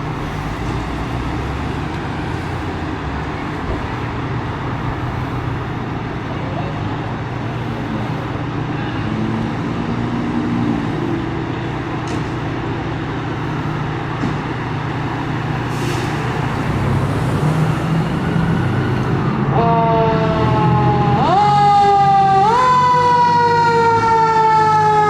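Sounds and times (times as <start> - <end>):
heavy vehicle engine humming: 0.0 - 24.2
street traffic: 0.0 - 25.0.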